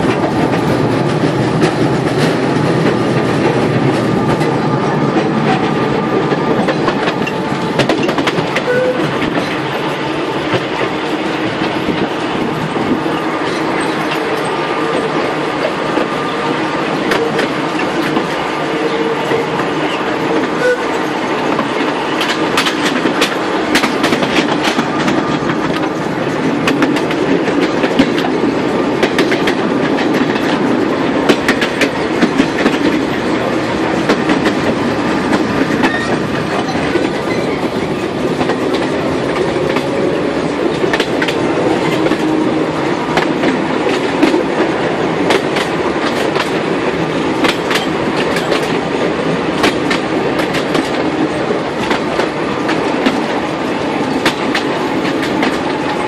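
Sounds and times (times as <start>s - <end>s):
tram rumbling: 0.0s - 56.0s
wheels clacking over rail joints: 0.0s - 56.0s.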